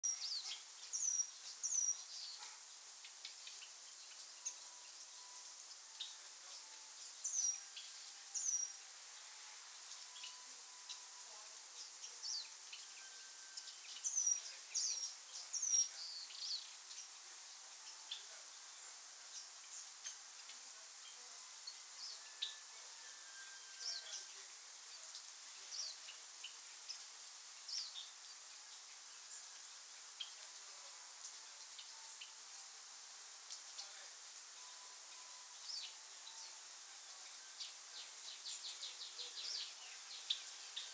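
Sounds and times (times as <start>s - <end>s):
faint bird chirps: 0.0s - 32.8s, 33.4s - 40.9s
faint steady hiss: 0.0s - 40.9s.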